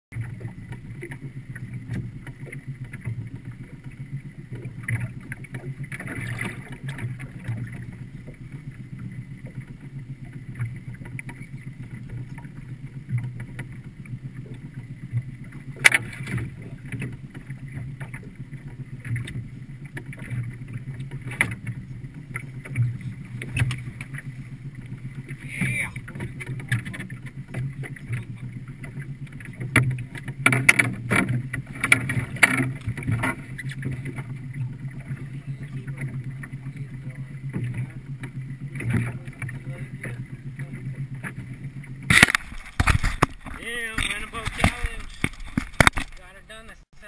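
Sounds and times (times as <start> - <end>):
small boat rumble: 0.1 - 47.0.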